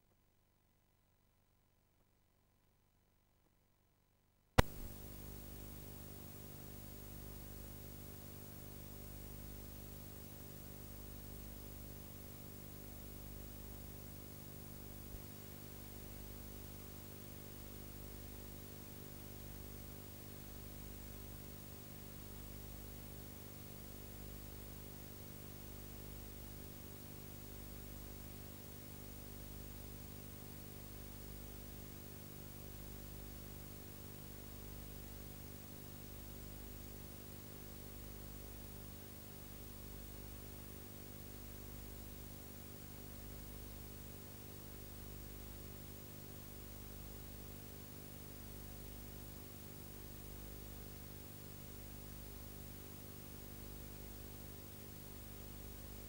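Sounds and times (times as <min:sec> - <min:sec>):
faint electrical hum: 0:04.6 - 0:56.0.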